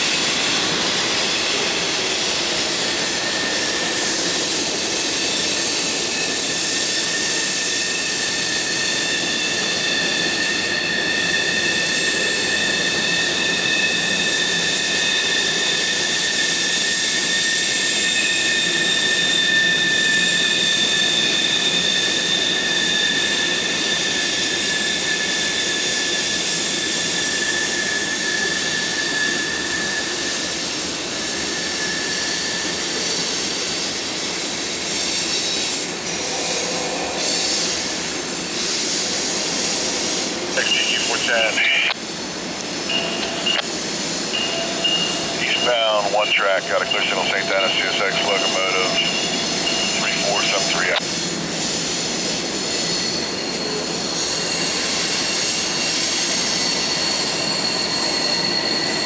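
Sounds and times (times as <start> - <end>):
steel train wheels on rails: 0.0 - 46.2, 46.9 - 59.0
high-pitched wheel squeal: 0.9 - 40.3, 42.6 - 46.0, 48.1 - 49.9, 51.6 - 59.0.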